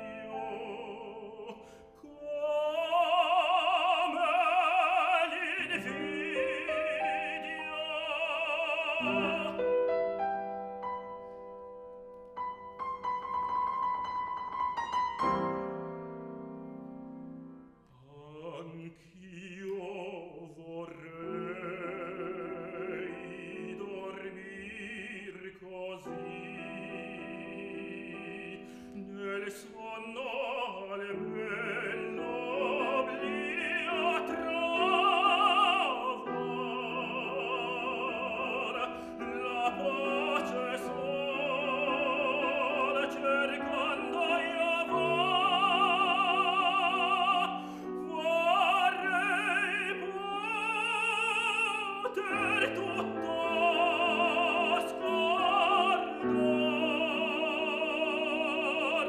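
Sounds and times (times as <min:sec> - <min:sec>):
tenor singing operatically: 0:00.0 - 0:10.1, 0:18.2 - 0:59.0
grand piano: 0:00.0 - 0:59.0.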